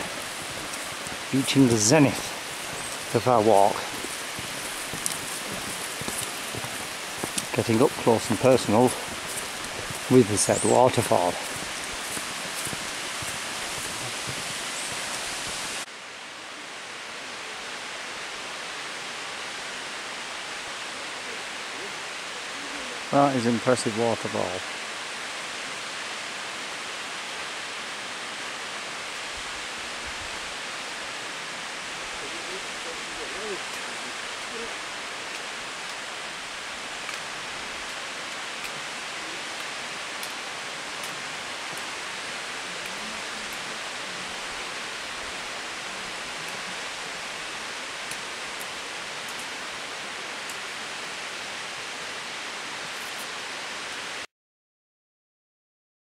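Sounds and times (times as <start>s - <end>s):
waterfall rushing: 0.0s - 54.2s.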